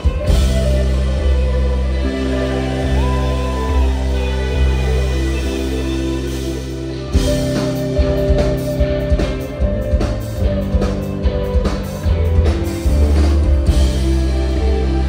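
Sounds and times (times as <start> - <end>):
drum kit beats: 0.0 - 15.0
electric guitars: 0.0 - 15.0.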